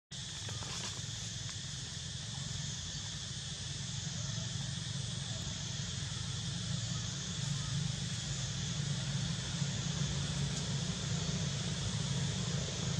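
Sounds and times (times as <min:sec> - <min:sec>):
high insect drone: 0:00.1 - 0:12.9.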